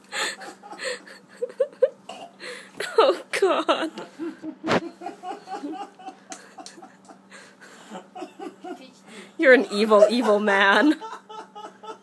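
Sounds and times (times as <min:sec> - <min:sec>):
people laughing: 0:00.1 - 0:02.0, 0:02.8 - 0:12.0.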